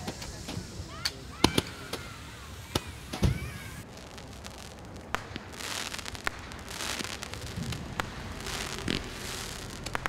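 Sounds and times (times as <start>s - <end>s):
firework hissing crackle: 0.0s - 10.0s
firework low thump: 0.0s - 10.0s
firework shots popping: 0.0s - 10.0s.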